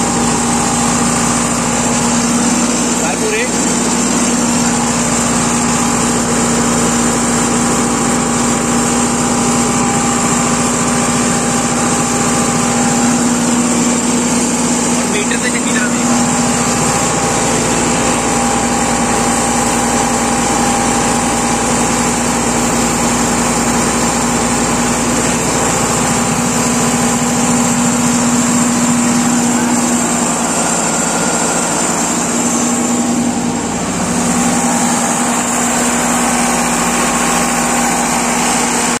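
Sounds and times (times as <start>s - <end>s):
high whine: 0.0s - 39.0s
tractor diesel engine running: 0.0s - 39.0s.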